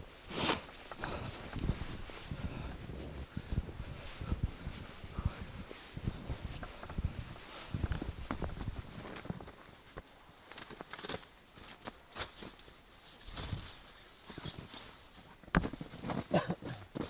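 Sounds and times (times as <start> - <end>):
footsteps in snow: 0.1 - 16.3.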